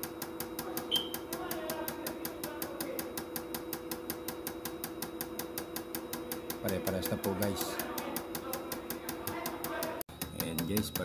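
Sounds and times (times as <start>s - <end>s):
fuel injectors clicking rapidly: 0.0s - 11.0s
steady bench hum: 0.0s - 11.0s.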